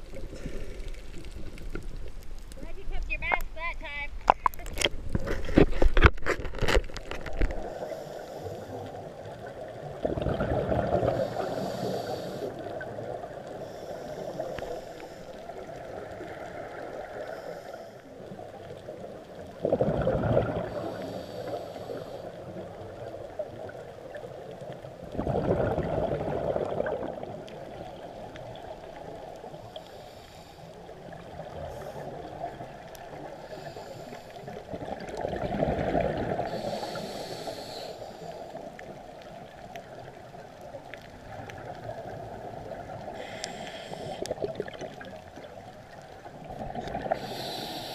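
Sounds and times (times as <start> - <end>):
underwater bubbles gurgling: 0.0 - 2.6, 4.2 - 47.9
low wash of water: 7.0 - 47.9.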